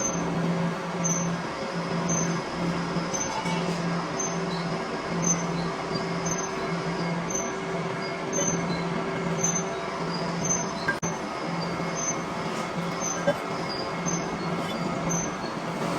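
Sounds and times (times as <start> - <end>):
metalworking machine running: 0.0 - 15.9.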